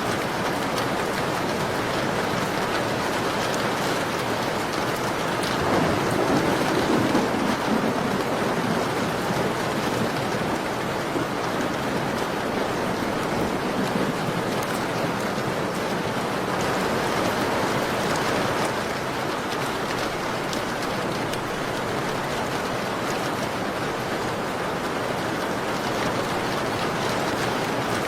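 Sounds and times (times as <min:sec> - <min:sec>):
rain pattering against a window: 0:00.0 - 0:28.0.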